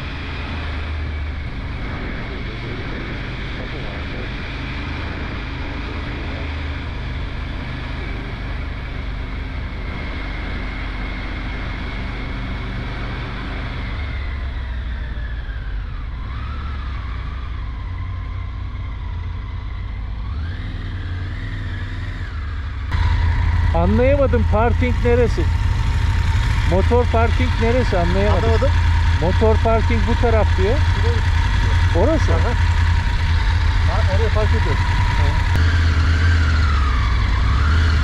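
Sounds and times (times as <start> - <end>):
motorcycle engine rumbling: 0.0 - 38.0.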